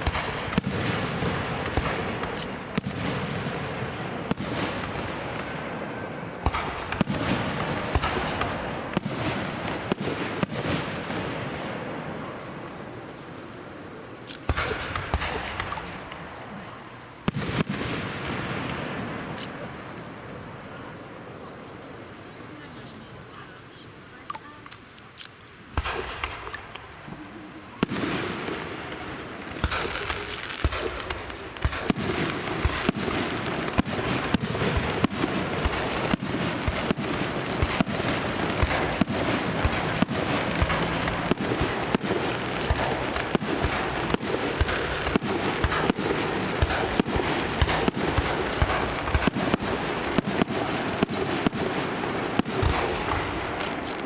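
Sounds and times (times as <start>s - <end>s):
fireworks bangs: 0.0s - 24.7s, 25.7s - 54.0s
fireworks crackling: 0.0s - 54.0s.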